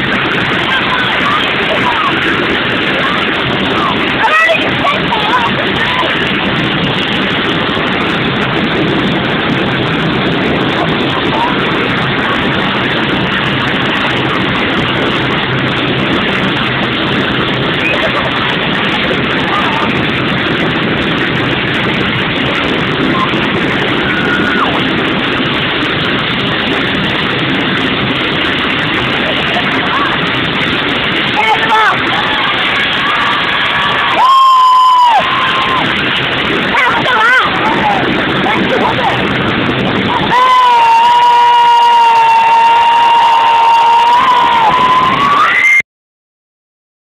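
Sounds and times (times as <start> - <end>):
loud steady engine noise: 0.0 - 45.8.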